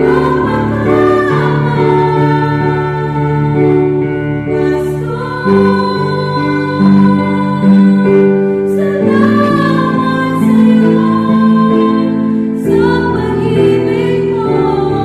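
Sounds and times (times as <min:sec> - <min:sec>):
slow song with singing: 0:00.0 - 0:15.0.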